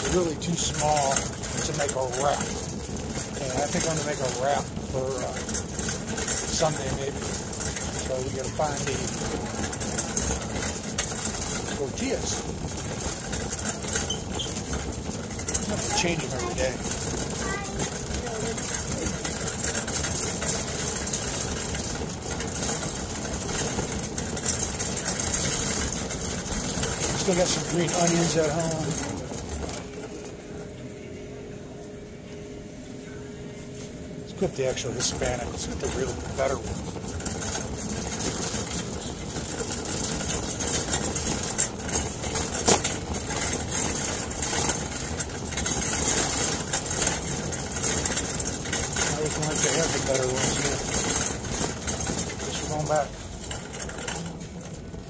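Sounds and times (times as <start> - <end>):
shopping cart rattling: 0.0 - 31.5, 33.7 - 55.0.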